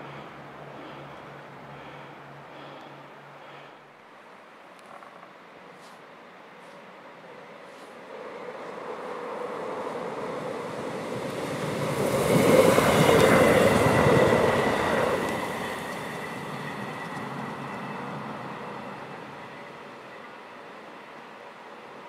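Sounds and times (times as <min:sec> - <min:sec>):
diesel train passing: 0:00.0 - 0:04.7, 0:05.4 - 0:22.0.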